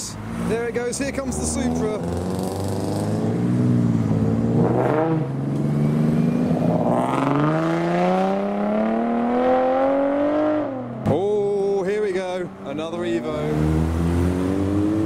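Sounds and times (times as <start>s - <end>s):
car accelerating with gear change: 0.4s - 11.0s, 13.3s - 15.0s
car engine revving hard: 0.4s - 11.0s, 13.3s - 15.0s.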